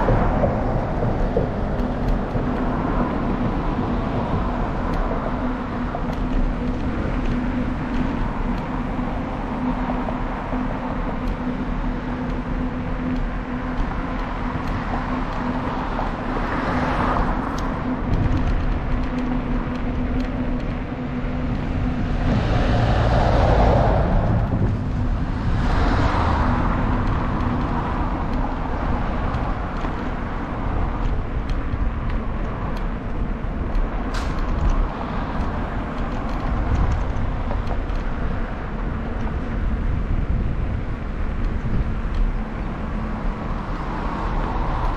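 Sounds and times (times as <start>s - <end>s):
vehicles passing: 0.0s - 44.9s
wind and road noise: 0.0s - 44.9s.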